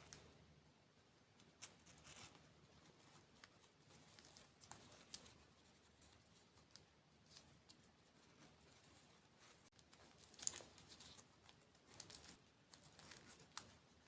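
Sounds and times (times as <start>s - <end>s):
soft eating clicks and crackles: 0.0s - 0.4s, 1.3s - 14.0s.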